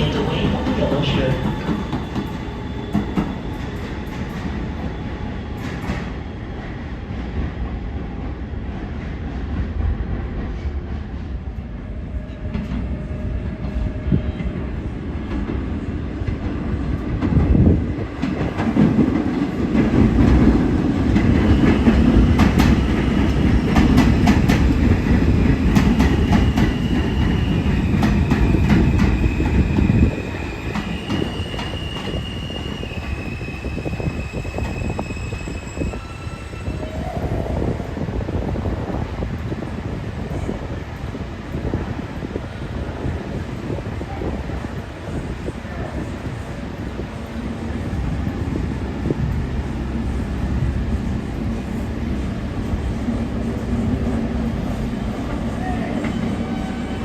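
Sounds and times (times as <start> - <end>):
subway train wheels clacking: 0.0 - 57.0.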